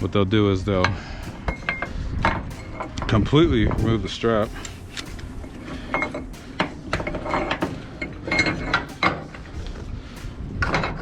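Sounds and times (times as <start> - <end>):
ratchet metal clicks and clanks: 0.0 - 11.0.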